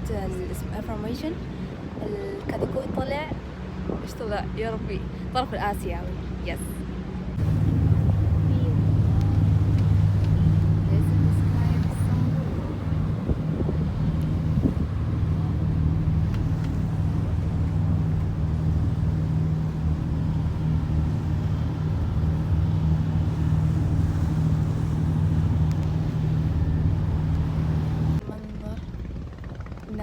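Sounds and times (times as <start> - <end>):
wind on microphone: 0.0 - 4.8, 7.4 - 30.0
ferry engine drone: 0.0 - 30.0.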